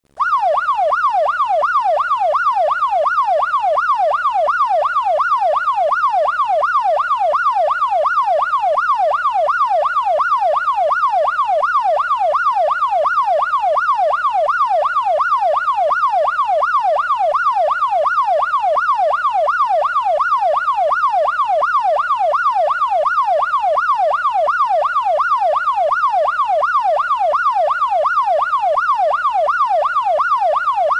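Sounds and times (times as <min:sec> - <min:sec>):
police siren yelping: 0:00.2 - 0:30.9.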